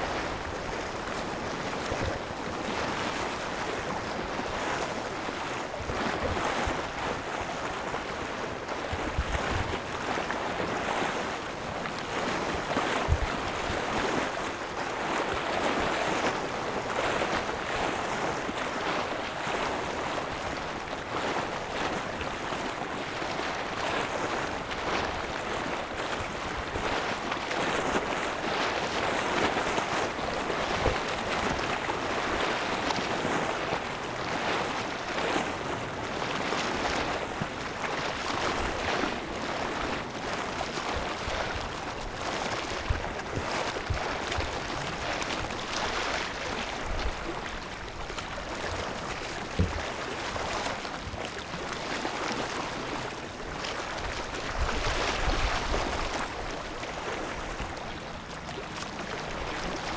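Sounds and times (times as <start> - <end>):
waves: 0.0 - 59.9.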